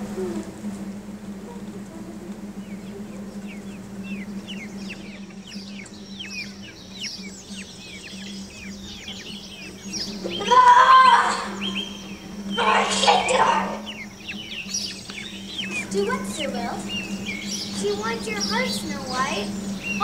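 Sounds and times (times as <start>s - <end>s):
birds chirping: 0.0s - 20.0s
steady low hum: 0.0s - 20.0s
loud bird cry: 2.5s - 20.0s.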